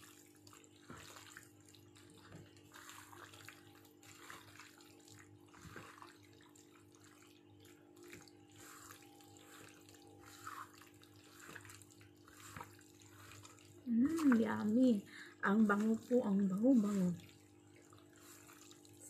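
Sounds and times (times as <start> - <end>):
wet squishing of kneaded meat: 0.0 - 19.0.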